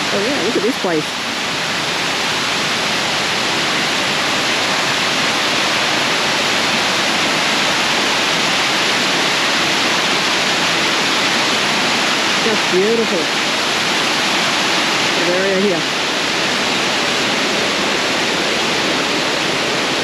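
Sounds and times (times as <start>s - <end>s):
small waterfall pouring: 0.0s - 20.0s.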